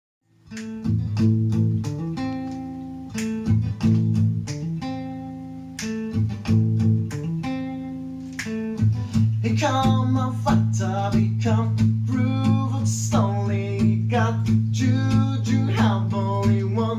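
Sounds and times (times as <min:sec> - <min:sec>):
acoustic guitar strumming chords: 0:00.4 - 0:16.9.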